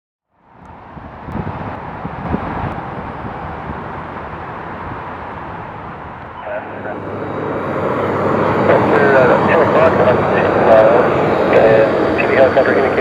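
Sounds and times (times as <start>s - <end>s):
airport ambience rumble: 0.4s - 13.0s.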